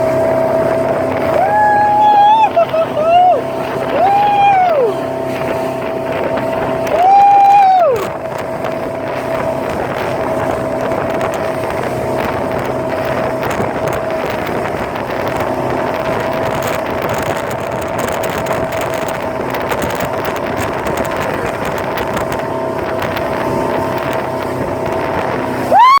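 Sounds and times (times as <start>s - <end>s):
motorboat engine running: 0.0s - 26.0s
wind noise on microphone: 0.0s - 26.0s.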